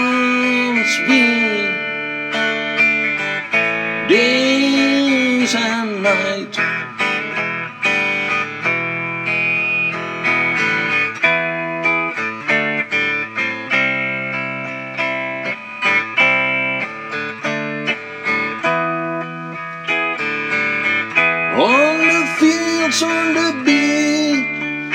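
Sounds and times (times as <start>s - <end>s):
guitar playing plucked notes: 0.0s - 24.9s.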